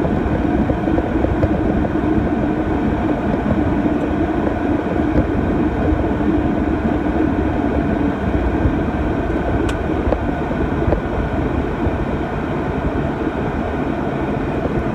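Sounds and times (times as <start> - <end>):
aircraft rolling rumble: 0.0 - 14.9
humming tone in engine noise: 0.0 - 14.9
turboprop engines running: 0.0 - 14.9.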